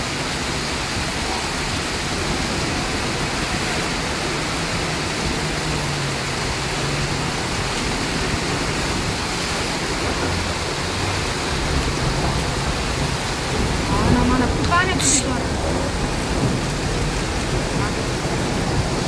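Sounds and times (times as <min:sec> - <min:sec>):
floodwater flowing: 0:00.0 - 0:19.0
heavy rain: 0:00.0 - 0:19.0.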